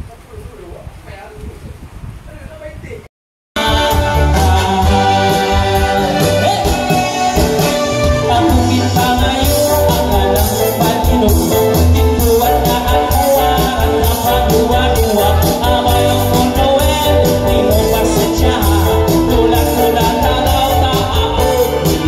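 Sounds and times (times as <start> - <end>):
bass guitar: 3.6 - 22.0
drums keeping a steady beat: 3.6 - 22.0
electric guitars: 3.6 - 22.0
person singing: 3.6 - 22.0.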